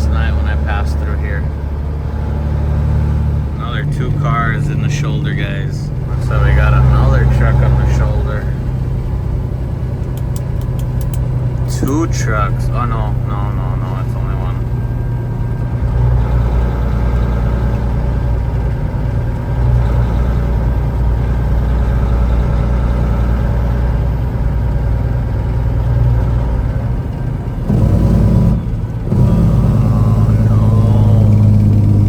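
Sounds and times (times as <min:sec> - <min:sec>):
truck diesel engine hum: 0:00.0 - 0:32.0.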